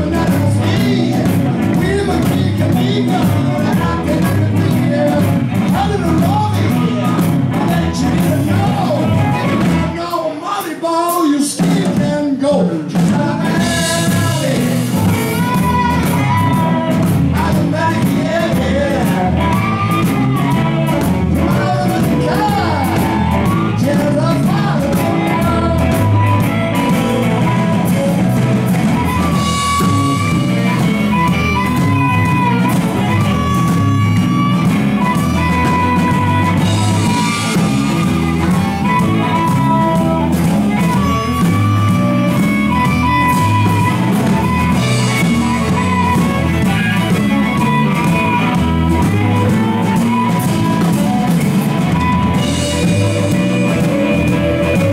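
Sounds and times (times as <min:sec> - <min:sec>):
electric bass: 0:00.0 - 0:10.0, 0:13.0 - 0:54.9
harmonica: 0:00.0 - 0:10.0, 0:13.4 - 0:54.9
drum kit: 0:00.0 - 0:54.9
electric guitar: 0:00.0 - 0:54.9.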